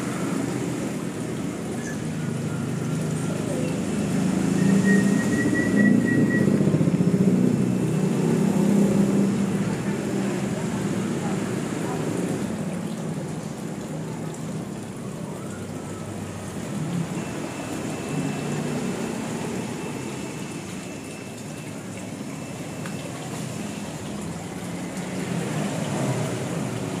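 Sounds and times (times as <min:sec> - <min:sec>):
waterfall splashing into pond: 0:00.0 - 0:27.0.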